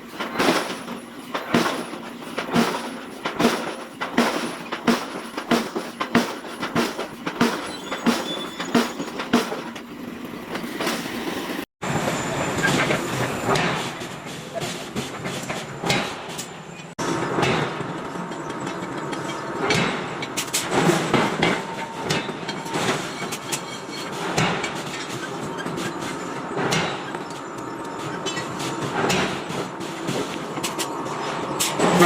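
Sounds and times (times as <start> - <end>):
heavy machinery clanking: 0.0 - 32.0.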